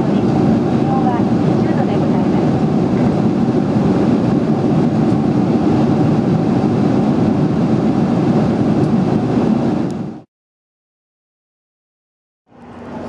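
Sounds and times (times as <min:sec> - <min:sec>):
airliner cabin engine rumble: 0:00.0 - 0:10.3, 0:12.5 - 0:13.0.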